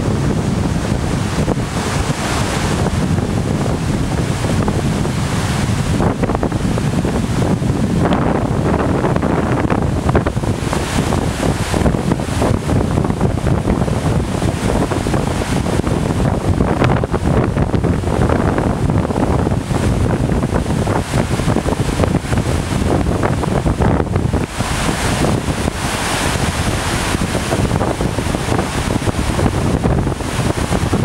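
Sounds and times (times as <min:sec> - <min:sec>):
whitewater river rushing: 0:00.0 - 0:31.0
wind buffeting microphone: 0:00.0 - 0:31.0.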